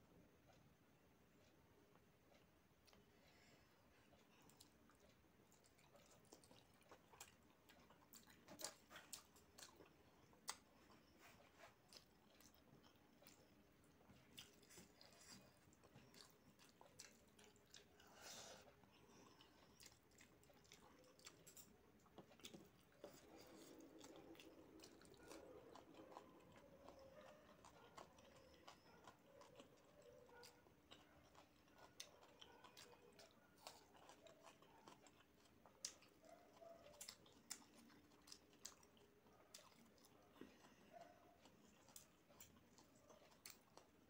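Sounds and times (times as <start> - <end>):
person chewing food: 0.1 - 44.0.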